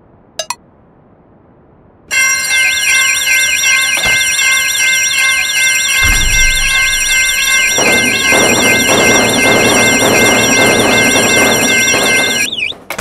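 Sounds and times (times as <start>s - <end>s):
railroad crossing bells ringing: 2.1s - 12.7s
warbling electronic alarm: 2.1s - 12.8s.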